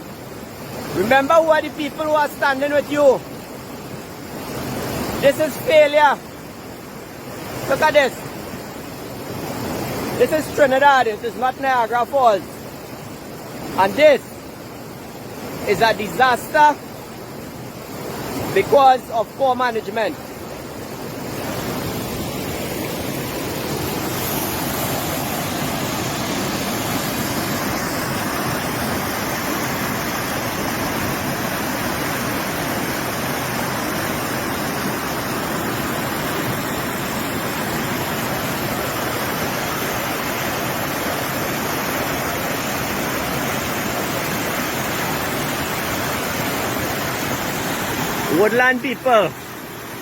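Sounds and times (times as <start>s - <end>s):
floodwater gushing: 0.0s - 50.0s.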